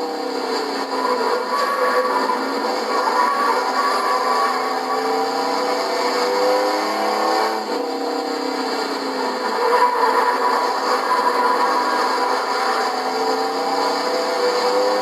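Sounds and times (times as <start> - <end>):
racing truck engines running hard: 0.0 - 15.0.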